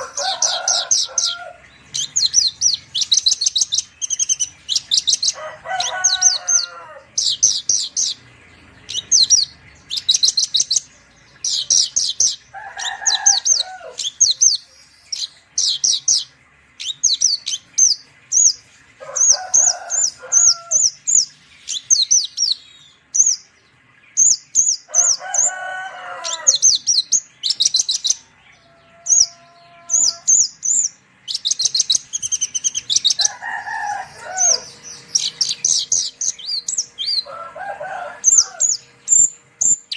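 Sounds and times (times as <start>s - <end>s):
bird chirping and warbling: 0.0s - 39.9s.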